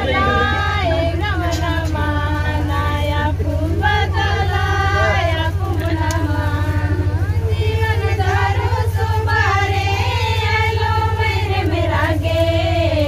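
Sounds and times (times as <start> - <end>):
low pulsing hum: 0.0 - 13.0
women and girls singing together: 0.0 - 13.0.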